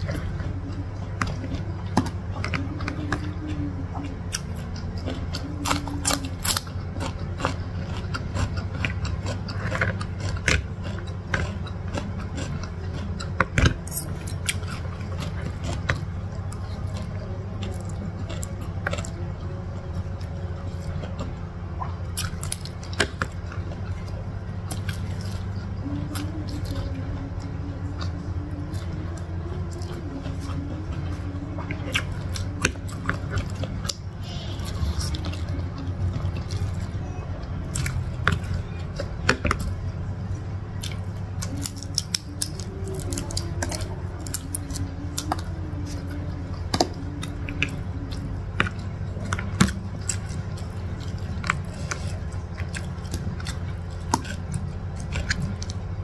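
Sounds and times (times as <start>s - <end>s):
chewing and smacking: 0.0s - 56.0s
low hum: 0.0s - 56.0s.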